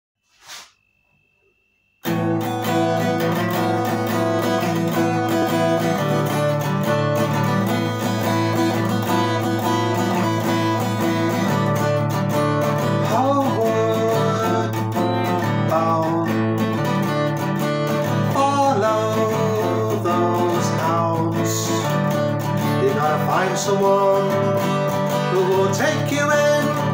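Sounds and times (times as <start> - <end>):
acoustic guitar strumming: 2.0 - 26.9.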